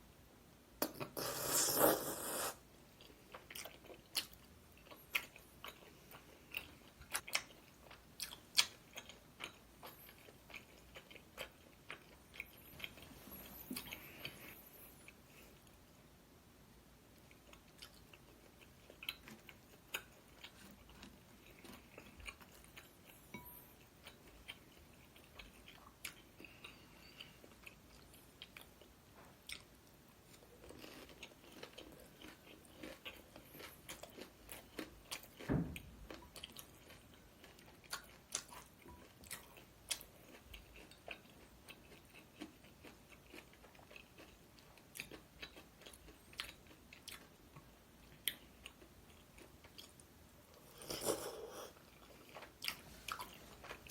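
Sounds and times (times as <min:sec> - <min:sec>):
chewing and crunching food: 0:02.9 - 0:15.8, 0:17.2 - 0:53.9.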